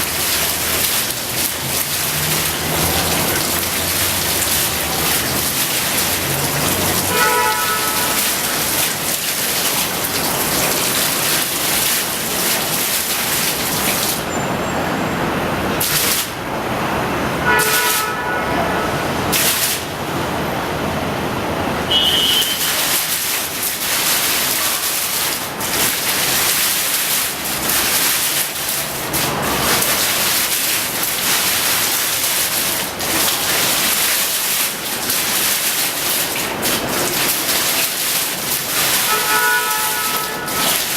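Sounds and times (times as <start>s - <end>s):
waterfall splashing into basin: 0.0s - 14.4s, 15.5s - 20.4s, 21.3s - 40.9s.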